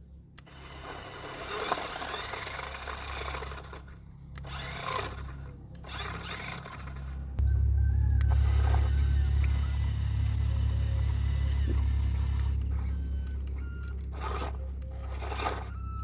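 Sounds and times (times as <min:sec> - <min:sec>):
model vehicle motors running: 0:00.0 - 0:16.0.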